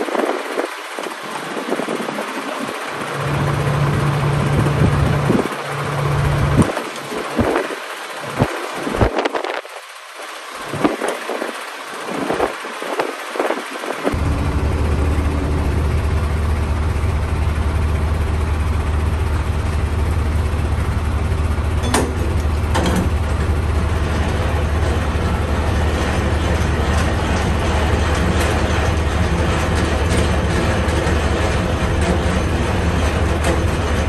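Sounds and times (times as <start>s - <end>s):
diesel engine humming: 0.0s - 34.0s.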